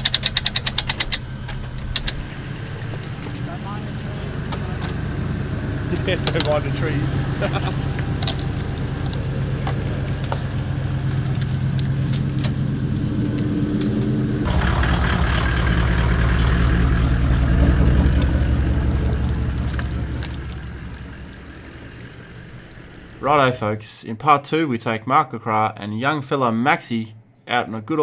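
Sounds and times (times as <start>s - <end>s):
vehicle engine running: 0.0s - 23.6s.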